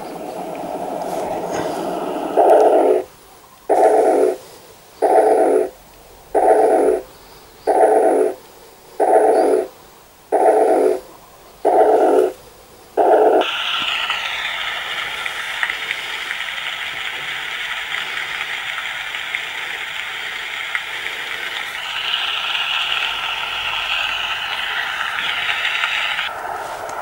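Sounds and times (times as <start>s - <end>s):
recorded rain hiss: 0.0s - 27.0s.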